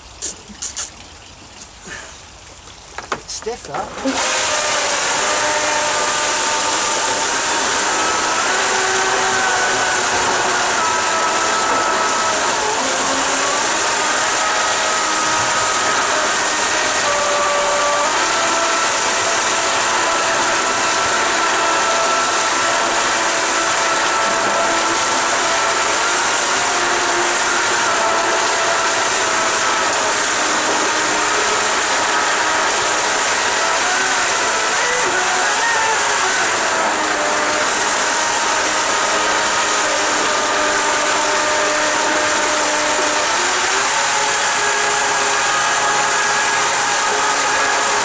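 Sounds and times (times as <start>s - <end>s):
churning water rushing: 0.0s - 48.0s
electric motor whine: 3.7s - 48.0s.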